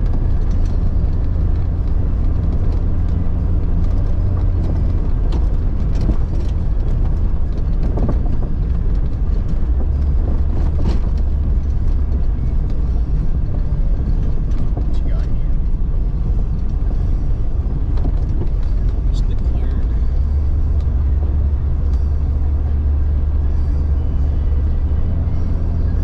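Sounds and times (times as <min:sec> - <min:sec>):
knocks and rattles: 0:00.0 - 0:23.1
engine and drivetrain rumble: 0:00.0 - 0:26.0.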